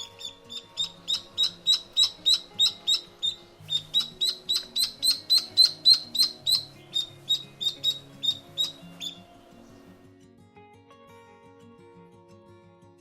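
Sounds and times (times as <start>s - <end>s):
background music with low notes: 0.0s - 13.0s.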